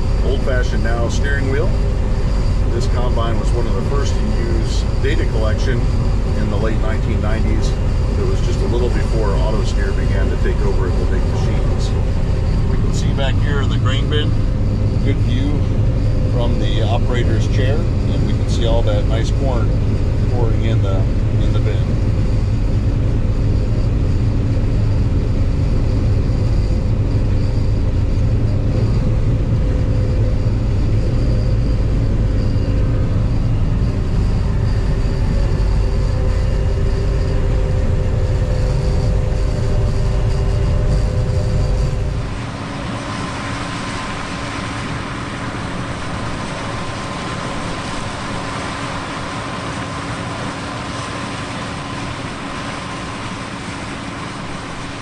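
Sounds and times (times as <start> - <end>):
combine harvester drone: 0.0 - 55.0
hissy machine whine: 0.0 - 55.0.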